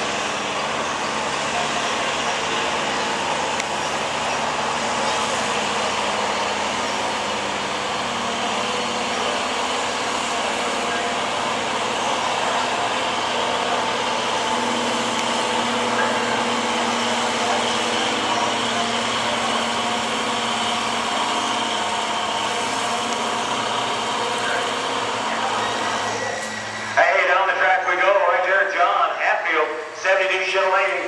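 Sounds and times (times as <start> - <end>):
truck engine at high revs: 0.0 - 31.0.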